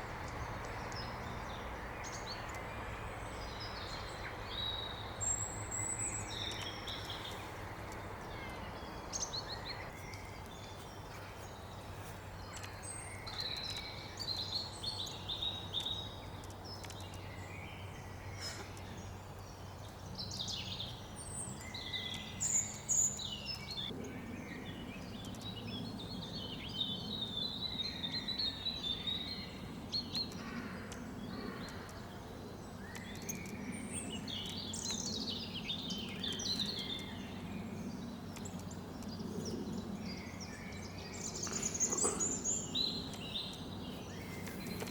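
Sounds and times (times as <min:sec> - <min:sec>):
songbirds singing and calling: 0:00.0 - 0:44.9.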